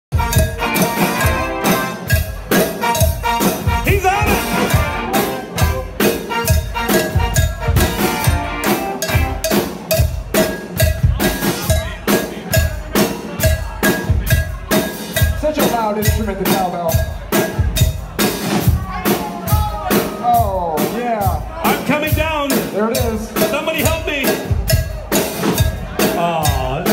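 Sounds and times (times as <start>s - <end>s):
cowbell struck: 0.1s - 18.4s, 22.1s - 26.9s
live band music: 0.1s - 26.9s.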